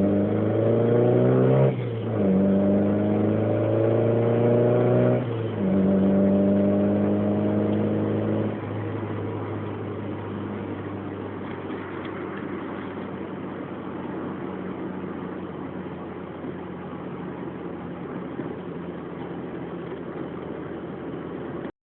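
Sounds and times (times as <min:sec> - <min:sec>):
car engine and exhaust: 0:00.0 - 0:21.7.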